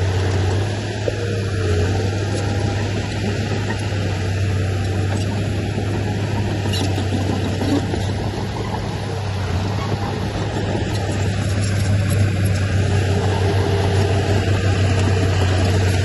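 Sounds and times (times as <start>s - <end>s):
diesel machinery drone: 0.0s - 16.0s.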